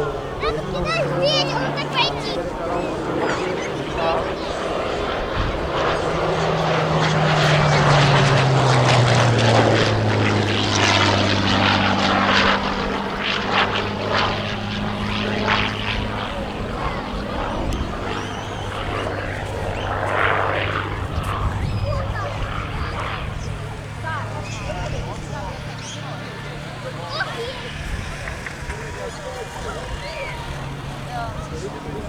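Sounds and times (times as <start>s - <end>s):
propeller aircraft engine drone: 0.0s - 32.0s.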